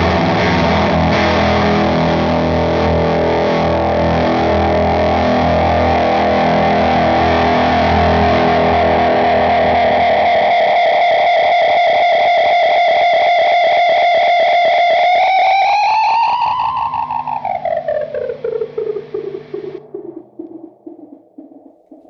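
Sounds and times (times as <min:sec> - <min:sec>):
distorted electric guitar with echoes: 0:00.0 - 0:22.0.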